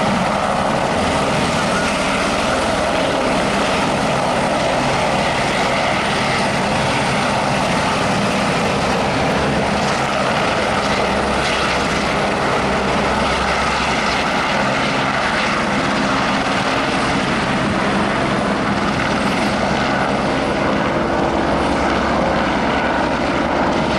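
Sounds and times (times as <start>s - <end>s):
helicopter engine and rotor: 0.0s - 23.9s.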